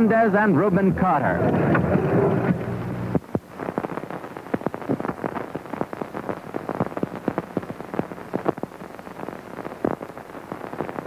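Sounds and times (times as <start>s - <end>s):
record crackling and popping: 0.0s - 11.0s.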